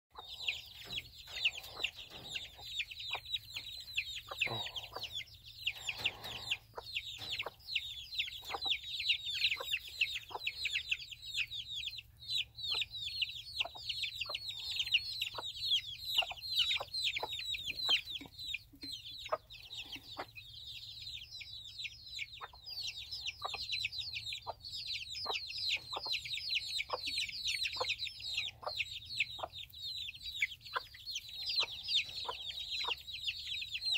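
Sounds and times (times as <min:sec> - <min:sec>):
adult chicken clucking: 0:00.1 - 0:33.9
chicks peeping: 0:00.1 - 0:33.9.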